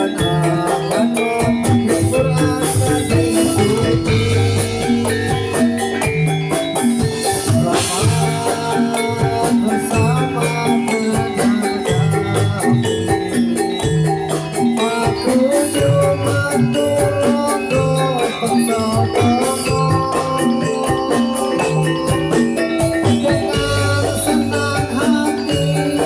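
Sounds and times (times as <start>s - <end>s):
drums: 0.0s - 26.0s
metallophones and gongs: 0.0s - 26.0s.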